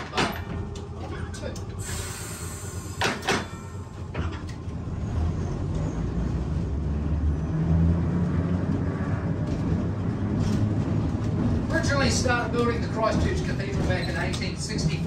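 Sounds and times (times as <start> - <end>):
tram wheels and motor rumbling: 0.0 - 15.0.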